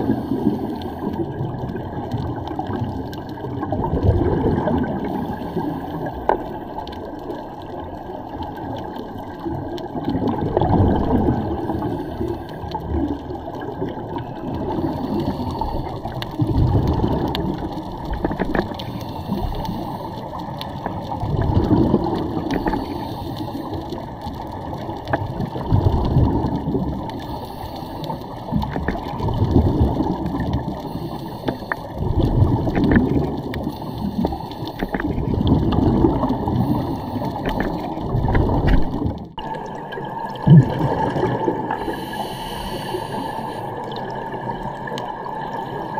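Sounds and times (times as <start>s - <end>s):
underwater bubbles gurgling: 0.0s - 45.9s.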